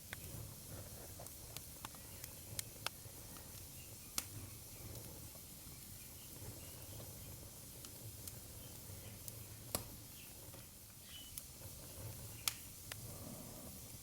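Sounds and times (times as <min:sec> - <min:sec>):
faint hiss: 0:00.0 - 0:14.0
low fire rumble: 0:00.0 - 0:14.0
wood fire popping and snapping: 0:00.0 - 0:14.0.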